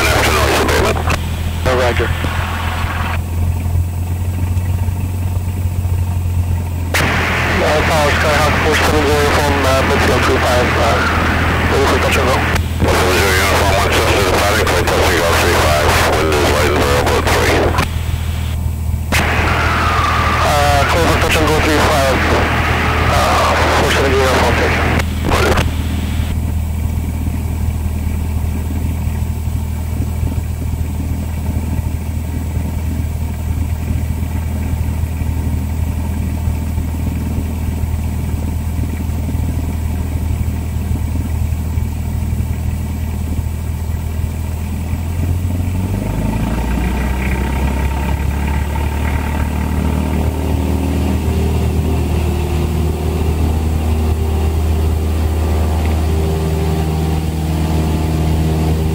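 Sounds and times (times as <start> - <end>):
propeller plane engine droning: 0.0 - 58.9.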